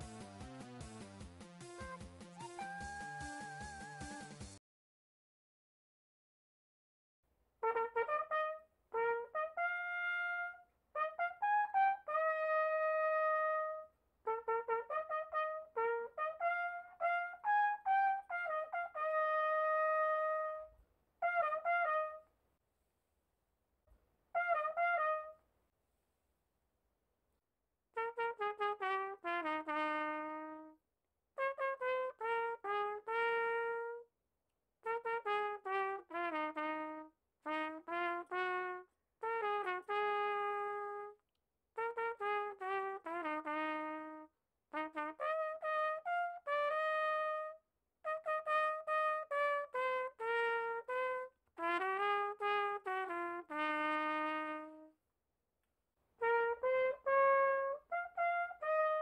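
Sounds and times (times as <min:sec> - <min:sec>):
trumpet-like brass melody: 0:00.0 - 0:04.6, 0:07.6 - 0:22.3, 0:24.3 - 0:25.5, 0:28.0 - 0:30.8, 0:31.4 - 0:34.1, 0:34.8 - 0:41.2, 0:41.8 - 0:55.0, 0:56.2 - 0:59.0.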